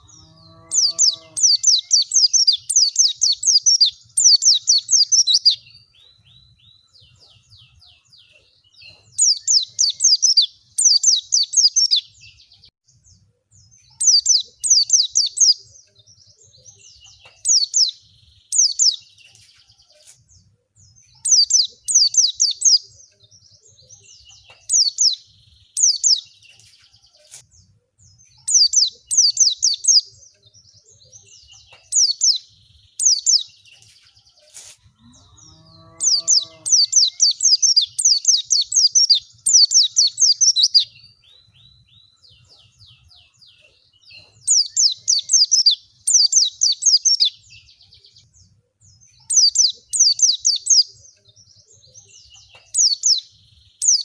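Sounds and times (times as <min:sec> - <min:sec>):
bird chirping in rapid bursts: 0:00.0 - 0:34.7, 0:35.4 - 0:48.4, 0:49.0 - 0:54.0.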